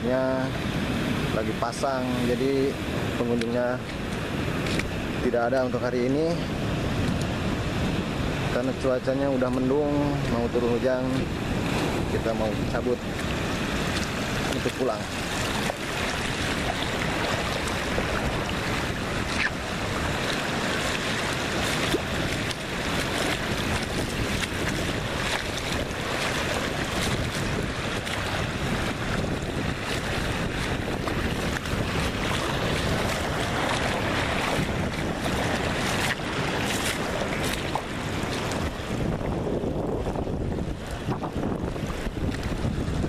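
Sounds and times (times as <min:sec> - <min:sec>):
ocean surf: 0:00.0 - 0:43.0
wind noise on microphone: 0:00.0 - 0:43.0.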